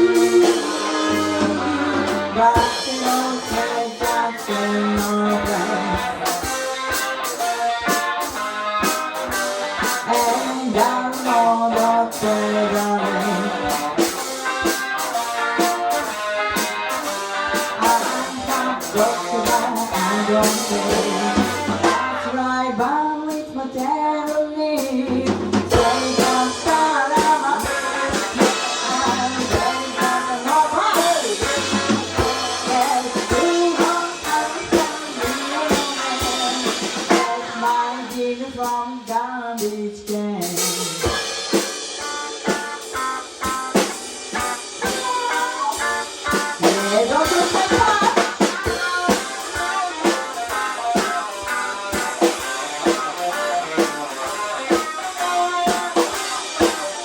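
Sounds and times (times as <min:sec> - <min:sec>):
drum rimshots: 0:00.0 - 0:22.4, 0:24.8 - 0:39.8, 0:40.4 - 0:57.0
electric guitar lead lines: 0:00.0 - 0:57.0
rock band playing: 0:00.0 - 0:57.0.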